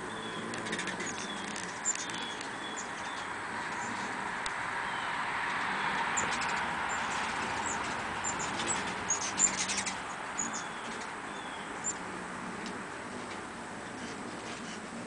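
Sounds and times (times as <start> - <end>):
hummingbird chip calls: 0.0 - 15.0.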